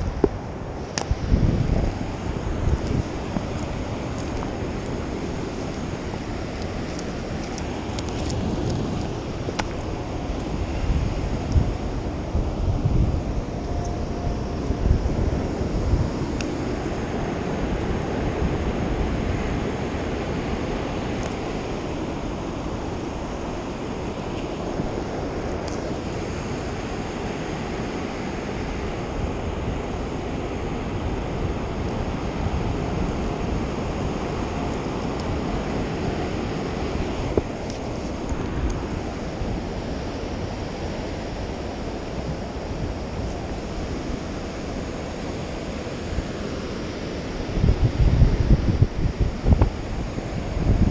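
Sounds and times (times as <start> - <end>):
ocean surf breaking: 0.0 - 50.9
wind buffeting microphone: 0.0 - 50.9.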